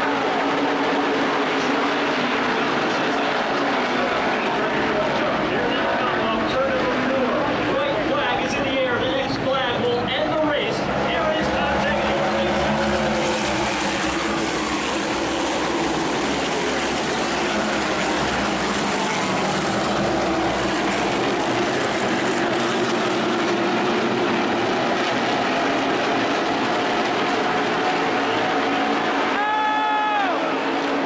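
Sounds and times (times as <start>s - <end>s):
race car engines droning: 0.0s - 31.0s.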